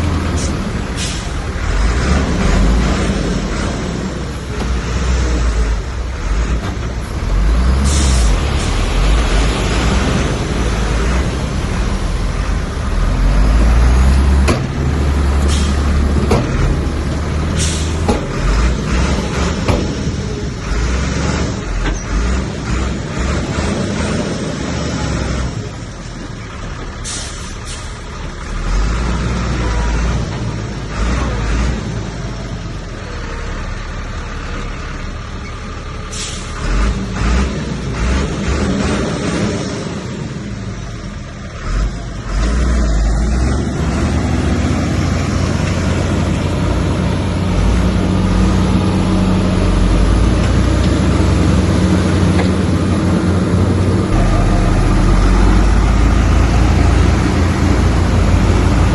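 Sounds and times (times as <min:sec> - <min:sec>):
diesel machinery engine rumble: 0:00.0 - 0:58.9.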